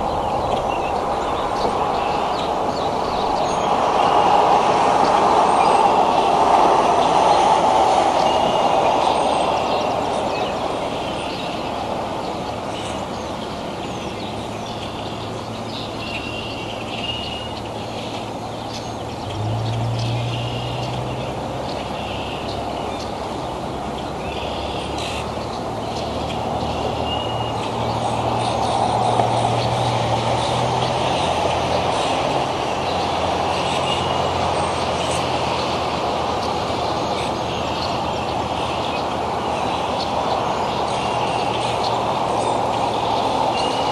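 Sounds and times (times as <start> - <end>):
heavy vehicle traffic rumble: 0.0 - 43.9
low engine hum: 0.0 - 43.9.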